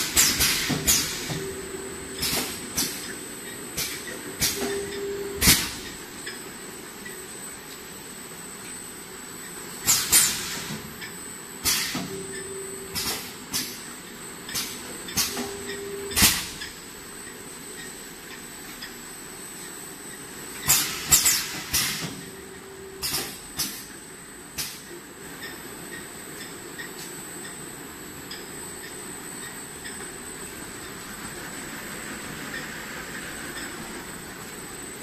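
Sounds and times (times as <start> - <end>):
constant high whine: 0.0 - 35.0
filling machine hum: 0.0 - 35.0.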